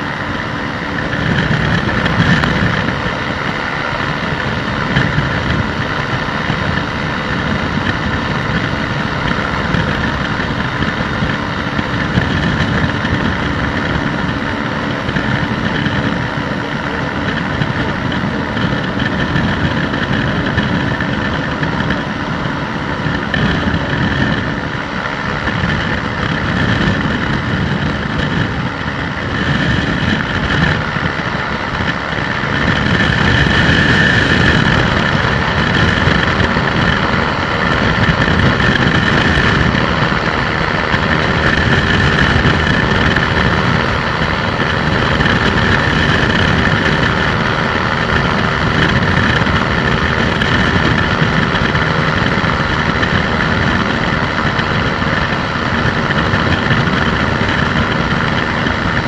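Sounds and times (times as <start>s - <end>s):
microlight engine running: 0.0s - 59.0s.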